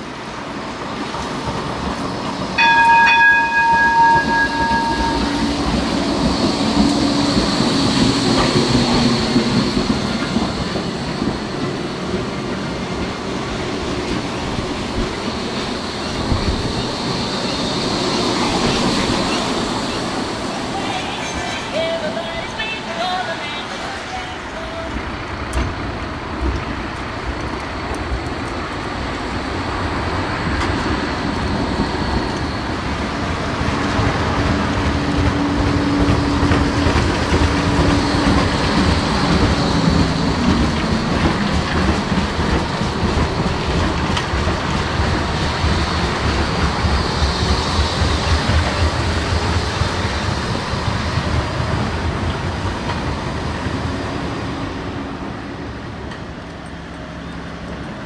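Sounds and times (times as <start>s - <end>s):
tram wheels rolling on rails: 0.0s - 58.0s
tram motor whine: 2.1s - 58.0s.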